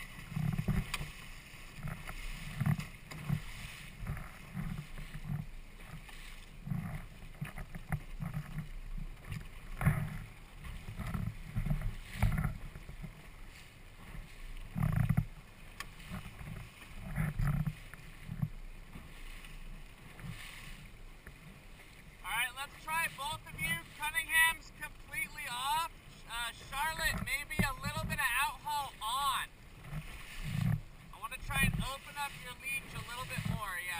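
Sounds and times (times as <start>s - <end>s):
water splashing against hull: 0.0s - 33.9s.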